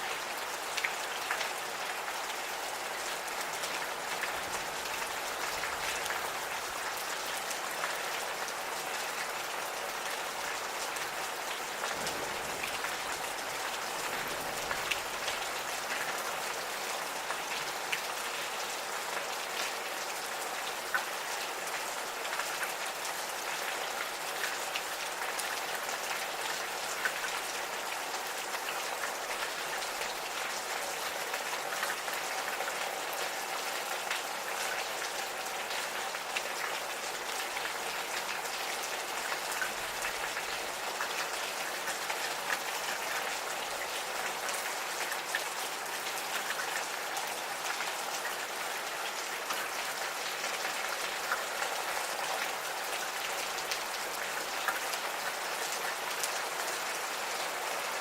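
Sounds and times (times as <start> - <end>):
gentle rain pattering: 0.0 - 58.0.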